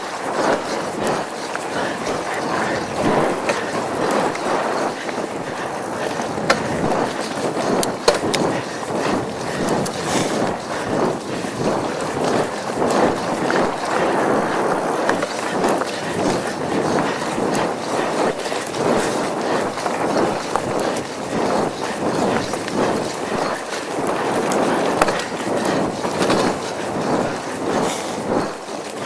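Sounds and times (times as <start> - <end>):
bike rattling over bumps: 0.0 - 29.0
bike tyres rumbling on dirt: 0.0 - 29.0.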